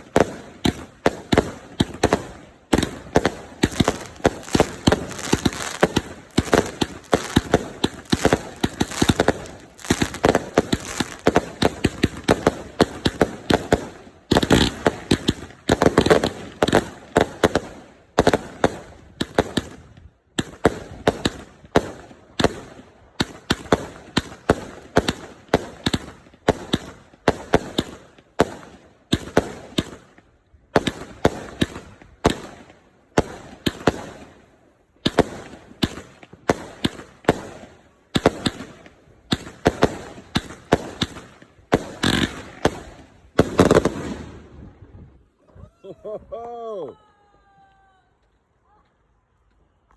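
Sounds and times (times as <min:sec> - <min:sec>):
fireworks firing sharp bangs: 0:00.0 - 0:44.9.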